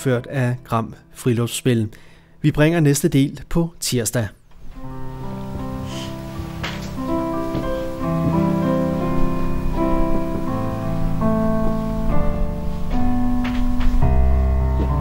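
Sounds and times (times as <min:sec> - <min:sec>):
piano music: 0:00.0 - 0:01.9, 0:04.6 - 0:15.0.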